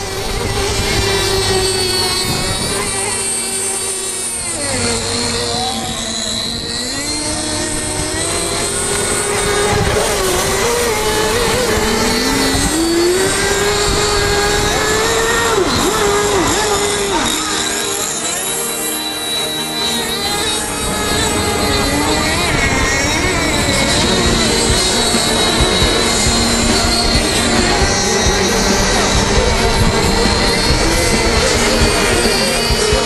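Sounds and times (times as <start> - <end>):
model boat engines whining: 0.0 - 33.0.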